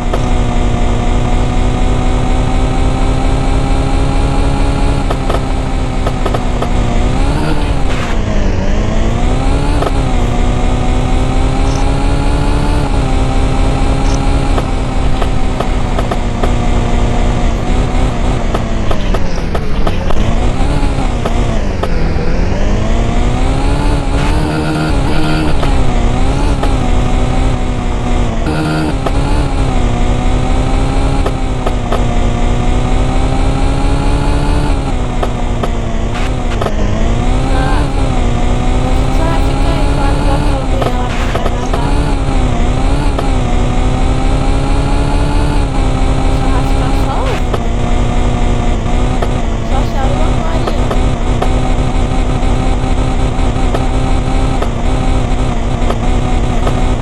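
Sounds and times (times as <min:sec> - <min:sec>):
two-stroke moped engine: 0:00.0 - 0:57.0.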